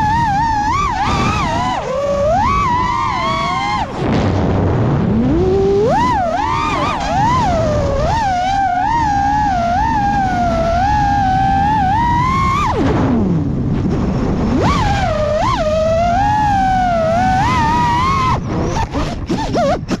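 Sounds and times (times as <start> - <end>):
drone motors whining: 0.0 - 20.0
wind rush: 0.0 - 20.0.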